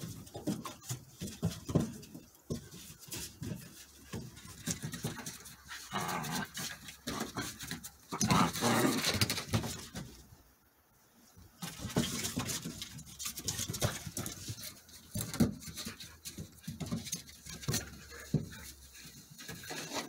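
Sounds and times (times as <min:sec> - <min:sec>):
puppies play-fighting: 0:00.0 - 0:10.4, 0:11.3 - 0:20.0.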